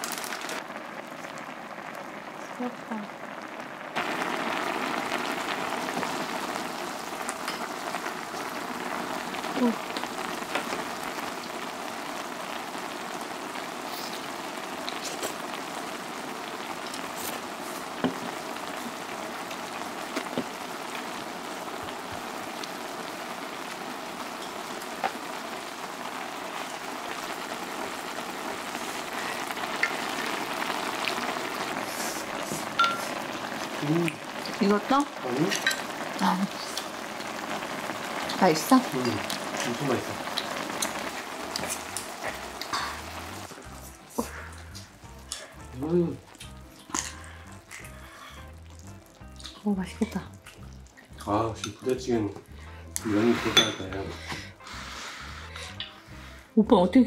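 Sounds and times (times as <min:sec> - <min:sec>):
stew bubbling and sizzling: 0:00.0 - 0:57.0.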